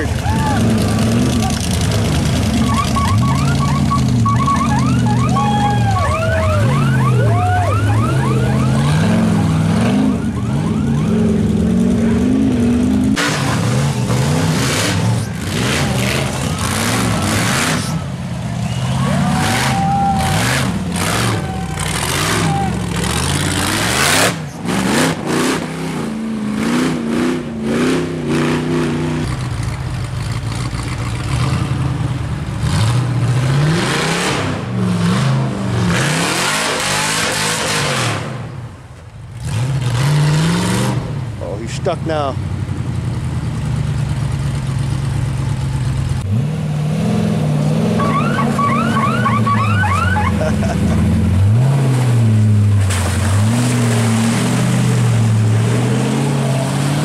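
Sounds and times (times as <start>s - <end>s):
buggy engine revving: 0.0s - 57.0s.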